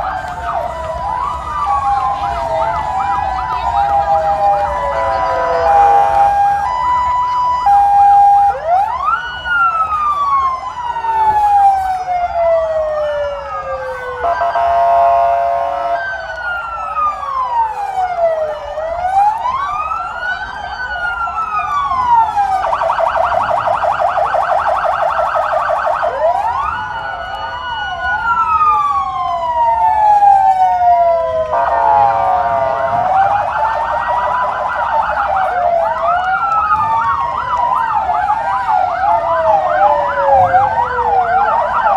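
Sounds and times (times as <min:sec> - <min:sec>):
electronic sirens wailing and yelping: 0:00.0 - 0:41.9.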